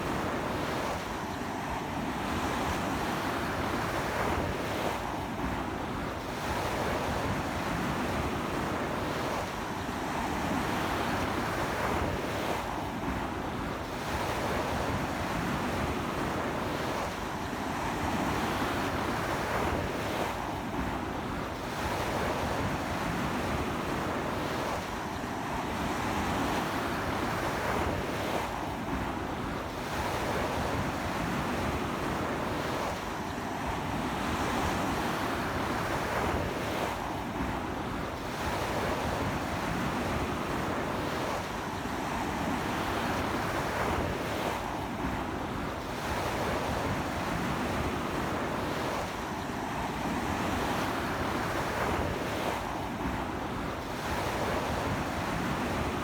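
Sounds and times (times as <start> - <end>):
sea waves breaking on beach: 10.4 - 56.0.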